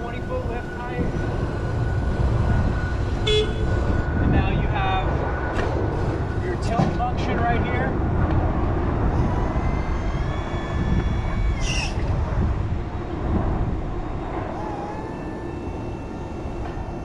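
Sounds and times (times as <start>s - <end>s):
low rumble: 0.0s - 16.9s
electric drive whine: 0.0s - 17.0s.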